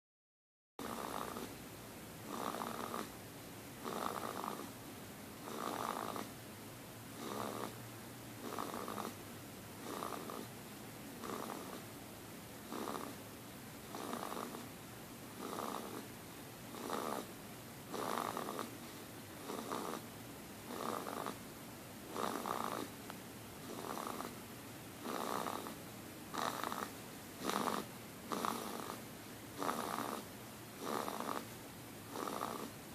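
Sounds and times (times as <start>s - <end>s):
small pet snoring: 0.8s - 1.6s, 2.2s - 3.2s, 3.8s - 4.8s, 5.4s - 6.4s, 7.1s - 7.8s, 8.4s - 9.2s, 9.8s - 10.6s, 11.2s - 11.9s, 12.6s - 24.4s, 25.0s - 32.9s.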